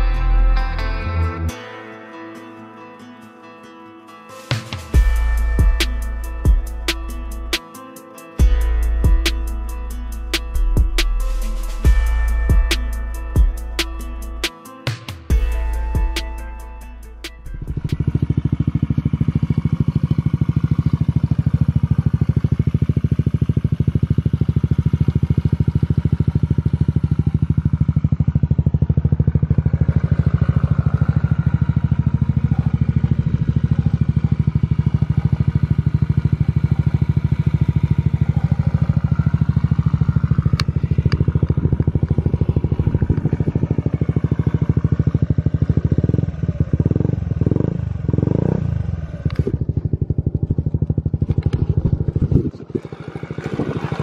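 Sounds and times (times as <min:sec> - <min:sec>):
scooter engine idling: 0:04.9 - 0:54.0.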